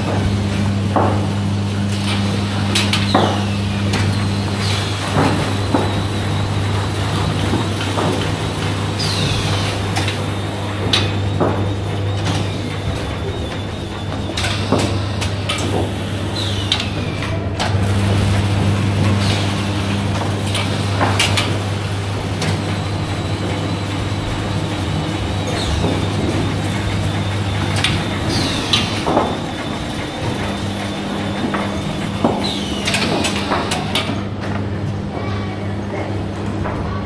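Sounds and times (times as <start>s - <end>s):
machine motor hum: 0.0s - 37.0s.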